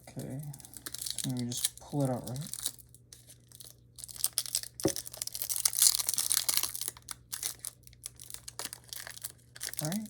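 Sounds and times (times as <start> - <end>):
packing material crinkling: 0.2 - 10.0.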